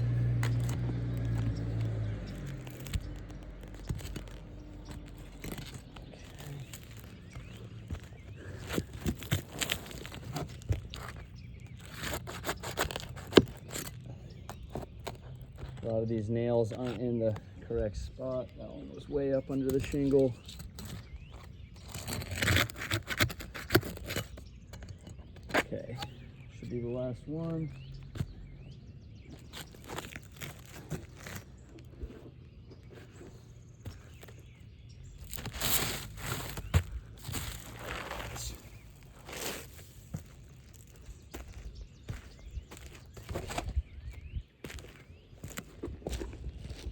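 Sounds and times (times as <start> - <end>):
shingles scraping and crackling: 0.0 - 46.9.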